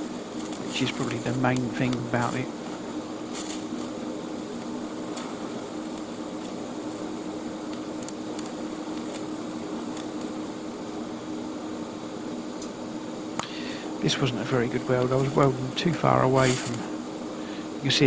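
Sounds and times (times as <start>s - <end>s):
welding arc humming and hissing: 0.0s - 18.0s.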